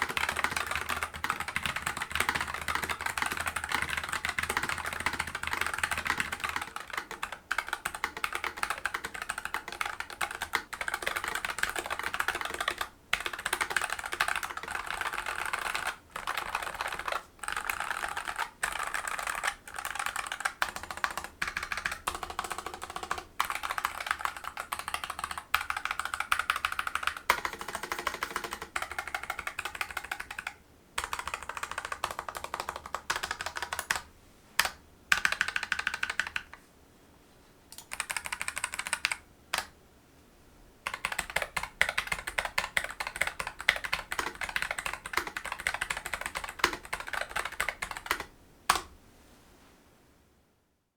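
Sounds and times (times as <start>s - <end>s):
mechanical keyboard typing: 0.0s - 36.6s, 37.7s - 39.7s, 40.8s - 48.9s.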